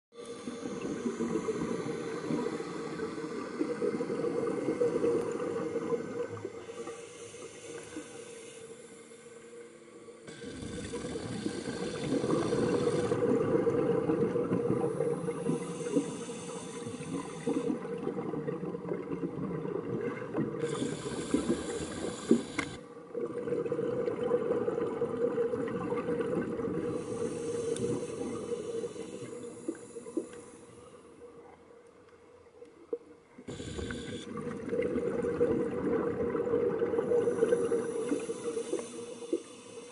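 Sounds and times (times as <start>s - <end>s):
underwater bubbling and gurgling: 0.1s - 39.9s.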